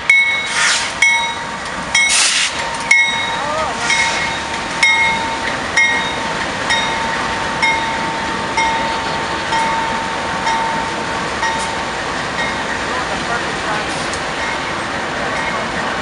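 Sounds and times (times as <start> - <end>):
passing train rumble: 0.0 - 16.0
railroad bell ringing: 0.0 - 16.0.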